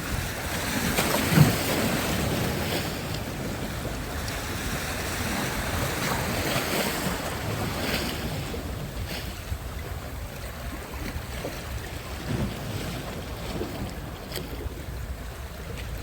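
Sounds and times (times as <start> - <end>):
sea surf breaking on beach: 0.0 - 16.0
wind rumbling on microphone: 0.0 - 16.0.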